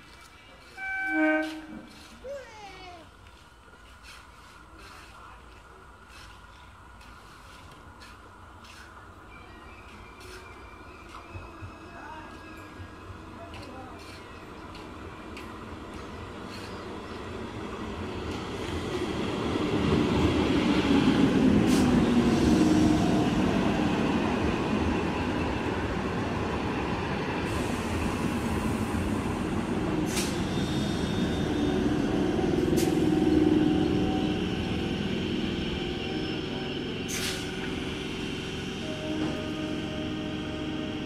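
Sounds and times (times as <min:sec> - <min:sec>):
train rumbling over rails: 0:00.0 - 0:41.0.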